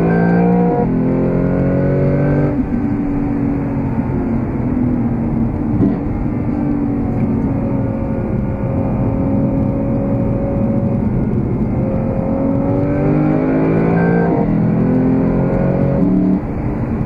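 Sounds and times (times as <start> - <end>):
car engine revving in cabin: 0.0 - 16.6.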